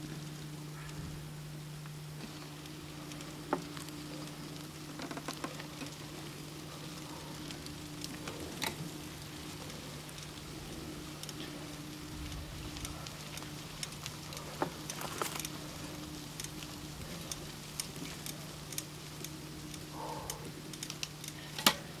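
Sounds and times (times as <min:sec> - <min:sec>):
bike tyres crackling on grit: 0:00.0 - 0:22.0
low hum: 0:00.0 - 0:22.0.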